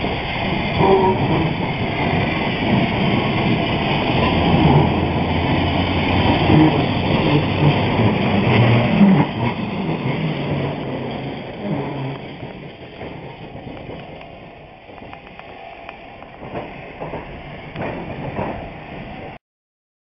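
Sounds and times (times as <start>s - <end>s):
tram wheel squeal: 0.0s - 19.4s
tram wheels rumbling and rattling: 0.0s - 19.4s.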